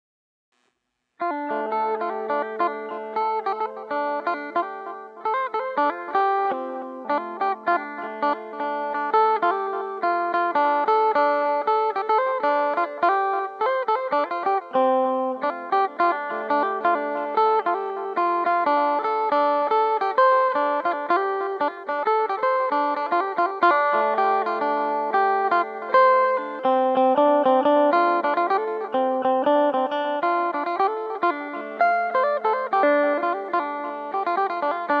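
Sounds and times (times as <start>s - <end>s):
plucked lute melody over drone: 1.2s - 35.0s.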